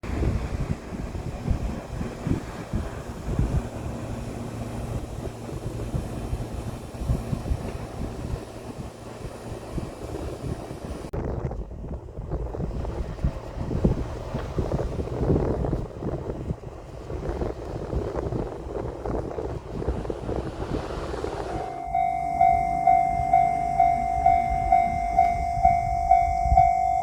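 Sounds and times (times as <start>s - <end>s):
train passing with low rumble: 0.0s - 27.0s
wind buffeting microphone: 0.0s - 27.0s.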